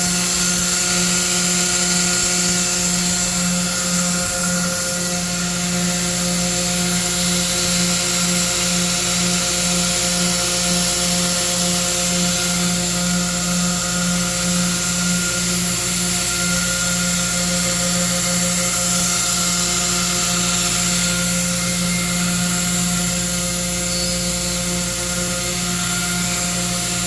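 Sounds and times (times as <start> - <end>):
router spindles humming: 0.0 - 27.0.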